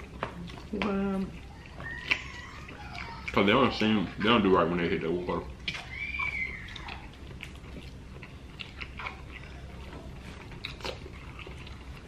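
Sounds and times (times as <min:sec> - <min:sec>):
people chewing soft food: 0:00.0 - 0:12.0.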